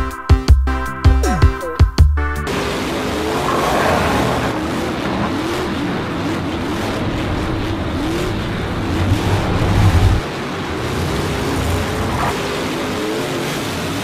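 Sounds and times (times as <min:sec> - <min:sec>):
racing car engines revving: 0:02.4 - 0:14.0.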